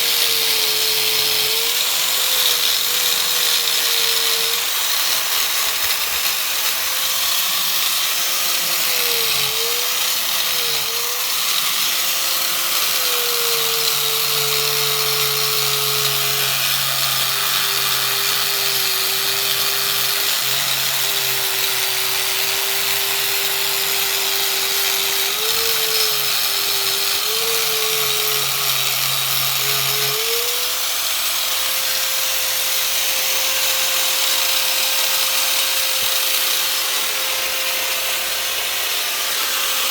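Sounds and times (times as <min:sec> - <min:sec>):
grinder motor whine: 0:00.0 - 0:39.9
grinder wheel hissing on metal: 0:00.0 - 0:39.9.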